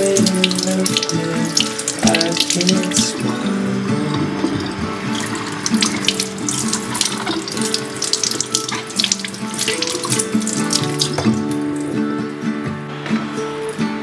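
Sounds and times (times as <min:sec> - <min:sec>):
tap water splashing into metal sink: 0:00.0 - 0:12.0
background music: 0:00.0 - 0:14.0.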